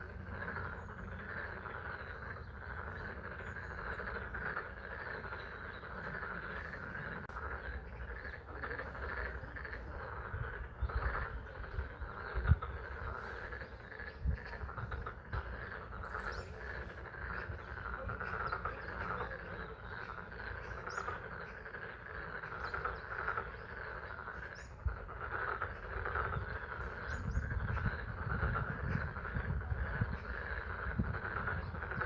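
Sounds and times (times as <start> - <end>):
frog chorus calling: 0.0 - 32.0.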